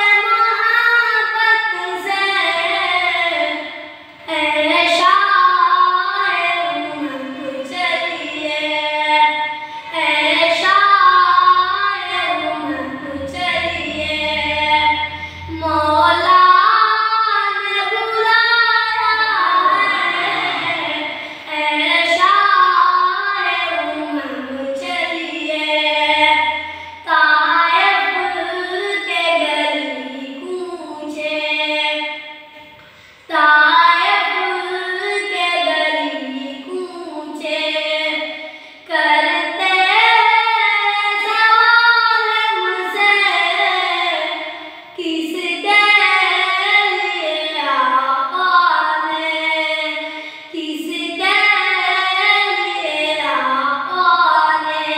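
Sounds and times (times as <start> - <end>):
high voice singing devotional song: 0.0 - 54.9.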